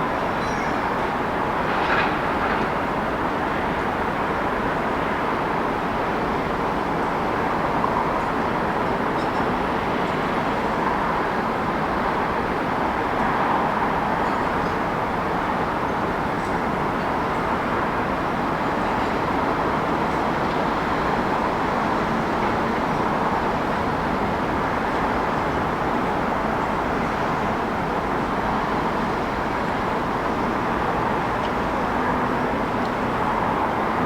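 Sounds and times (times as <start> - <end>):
city traffic noise: 0.0 - 34.0.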